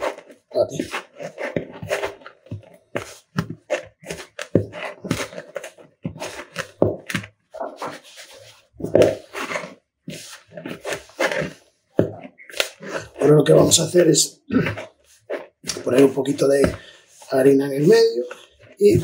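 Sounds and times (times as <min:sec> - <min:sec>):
dough being kneaded by hand: 0:00.0 - 0:19.0.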